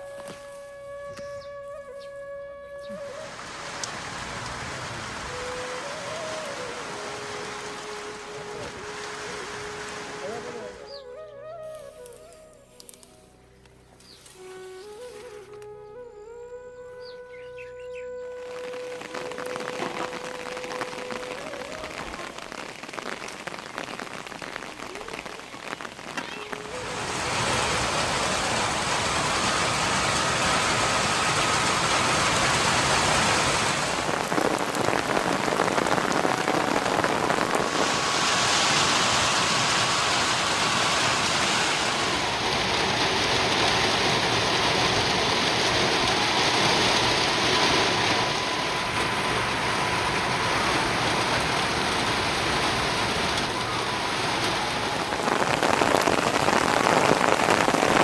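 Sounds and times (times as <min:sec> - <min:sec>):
steady rain falling: 0:02.9 - 0:13.2, 0:14.2 - 0:15.6, 0:18.2 - 0:58.0.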